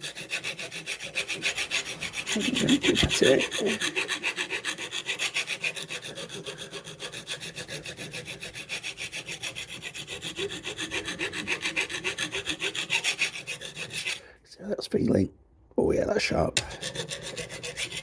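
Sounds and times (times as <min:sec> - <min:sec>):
file rasping on steel blade: 0:00.0 - 0:14.3, 0:16.6 - 0:18.0.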